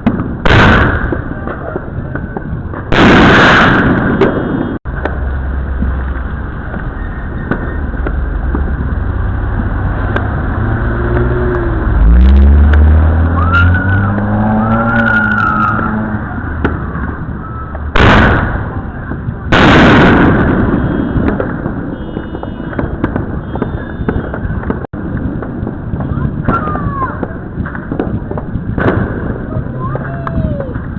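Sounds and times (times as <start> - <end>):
background rumble: 0.0 - 30.9
fireworks bangs: 0.0 - 30.9.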